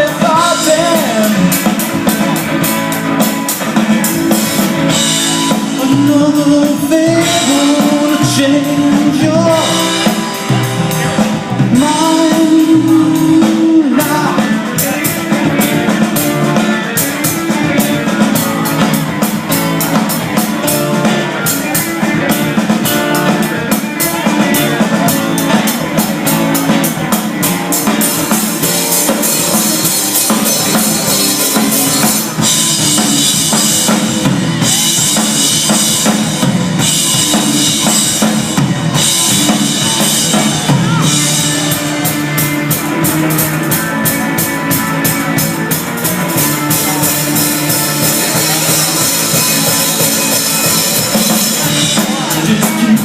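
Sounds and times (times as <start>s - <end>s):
instrumental rock music: 0.0s - 53.0s.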